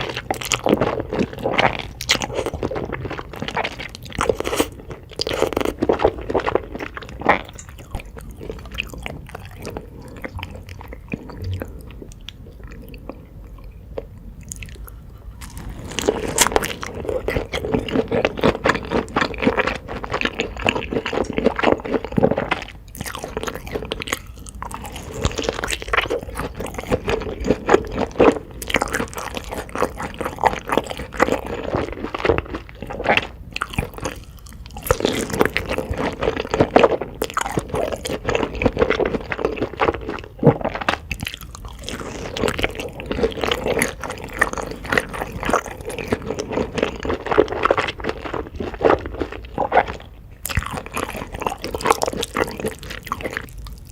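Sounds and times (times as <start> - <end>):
person chewing and crunching food: 0.0 - 53.9.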